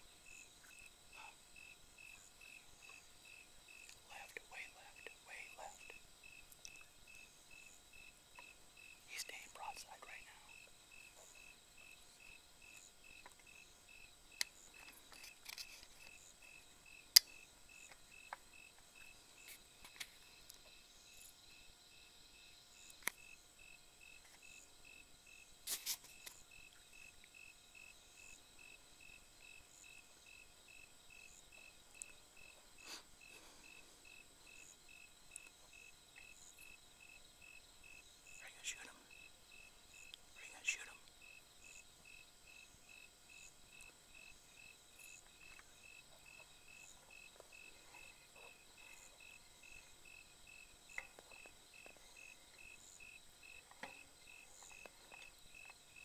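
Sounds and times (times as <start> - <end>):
crickets chirping: 0.0 - 56.0
faint insect drone: 0.0 - 56.0.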